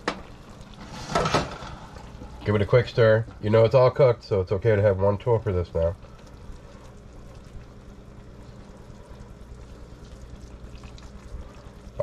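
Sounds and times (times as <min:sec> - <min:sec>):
skillet simmering and bubbling: 0:00.0 - 0:12.0
soft stirring in a pan: 0:00.0 - 0:12.0.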